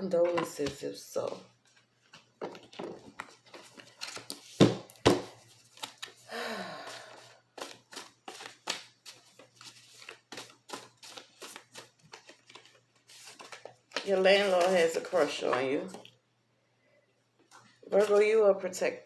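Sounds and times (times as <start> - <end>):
cards shuffling: 0.2 - 6.3, 6.9 - 16.0, 17.5 - 18.4.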